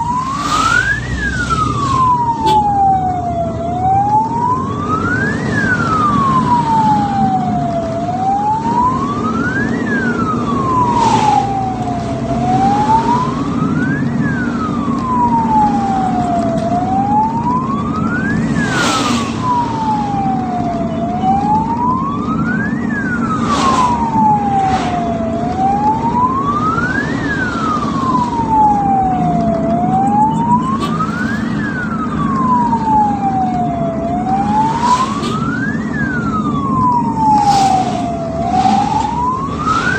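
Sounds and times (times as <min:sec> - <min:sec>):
ambulance siren wailing: 0:00.0 - 0:39.9
road and engine noise: 0:00.0 - 0:39.9.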